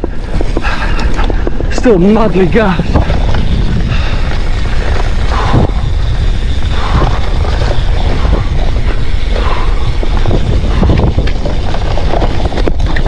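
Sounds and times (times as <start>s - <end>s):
mountain bike rattling on trail: 0.0s - 13.0s
wind buffeting microphone: 0.0s - 13.0s.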